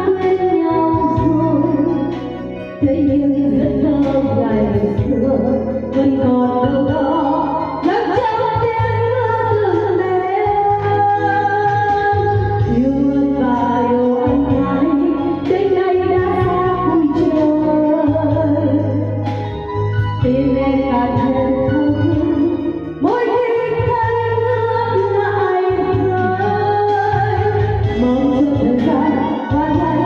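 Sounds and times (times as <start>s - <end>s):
instrumental backing: 0.0s - 30.0s
woman singing ballad: 0.0s - 30.0s.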